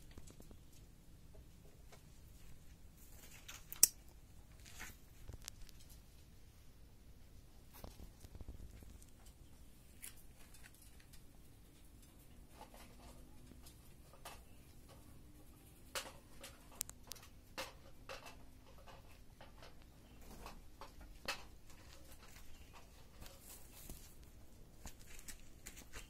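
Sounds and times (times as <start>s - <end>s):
faint rustling: 0.0s - 26.0s.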